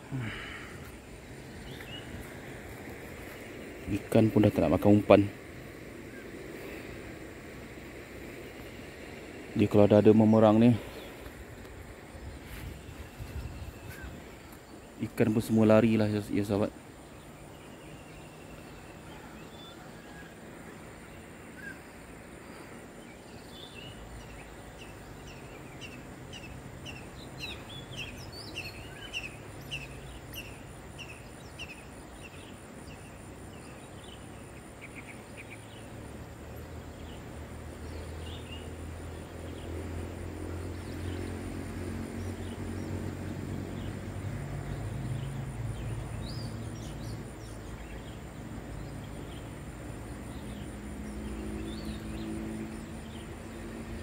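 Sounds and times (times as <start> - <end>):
insect whine: 0.0 - 54.0.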